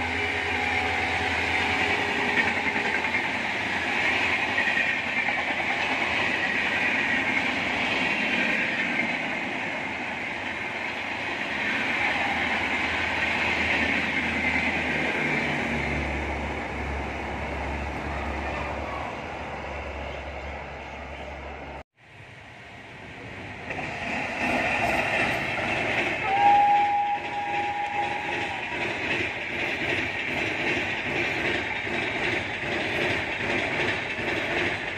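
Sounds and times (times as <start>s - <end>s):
train wheels rushing on rail: 0.0s - 34.9s.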